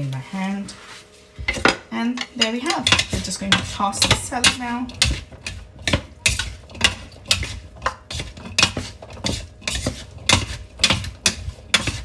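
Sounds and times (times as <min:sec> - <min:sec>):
utensils knocking and scraping bowl: 0:01.4 - 0:12.0.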